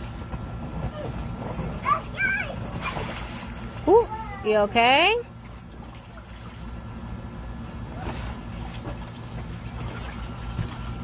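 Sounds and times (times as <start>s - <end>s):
steady low rumble: 0.0s - 11.0s
water sloshing and splashing: 0.0s - 11.0s.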